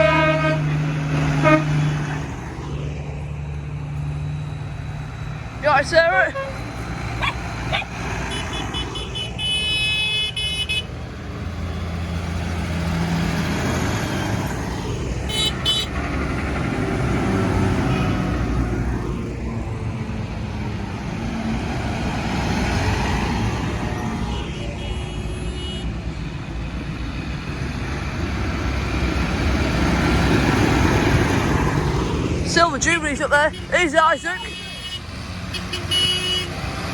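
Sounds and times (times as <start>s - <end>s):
tractor engines running: 0.0s - 36.9s.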